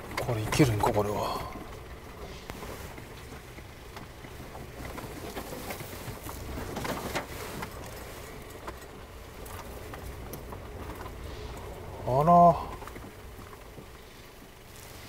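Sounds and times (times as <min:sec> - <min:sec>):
car engine low rumble: 0:00.0 - 0:15.0
tyres crunching over gravel: 0:00.0 - 0:15.0.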